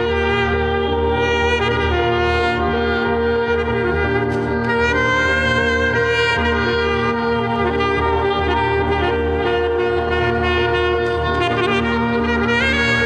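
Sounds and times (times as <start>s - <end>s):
low sustained keyboard tones: 0.0s - 13.0s
reed wind instrument long notes: 0.0s - 13.0s.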